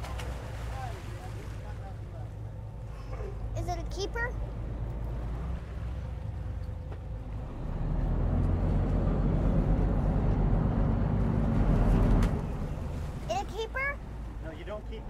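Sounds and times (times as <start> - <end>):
boat motor running: 0.0 - 15.0
water rushing past hull: 0.0 - 15.0.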